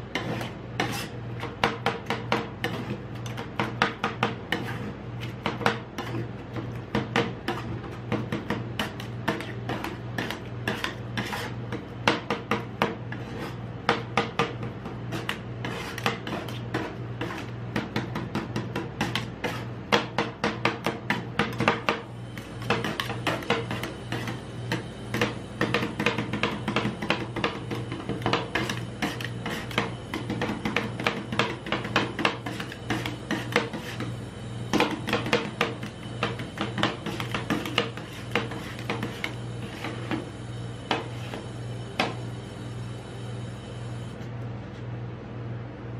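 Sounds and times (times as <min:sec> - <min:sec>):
steady low hum: 0:00.0 - 0:45.9
metal spatulas chopping and scraping: 0:00.1 - 0:34.1, 0:34.7 - 0:40.2.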